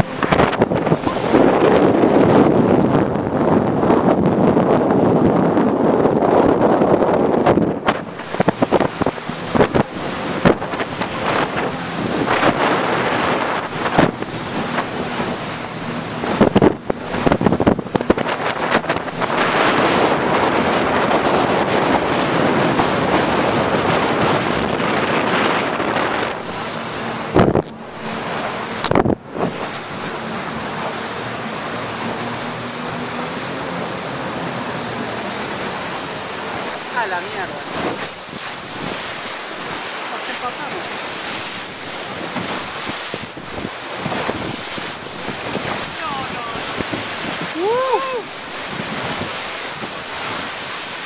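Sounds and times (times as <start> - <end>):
river water rushing: 0.0 - 2.3, 7.8 - 24.0, 25.0 - 51.0
boat engine humming: 0.0 - 51.0
wind on microphone: 0.0 - 51.0.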